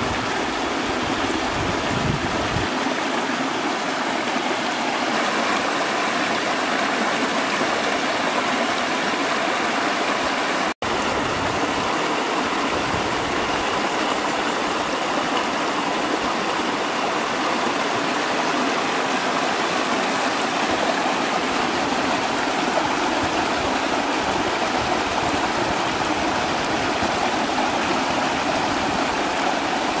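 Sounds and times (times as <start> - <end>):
stream rushing over stones: 0.0 - 30.0.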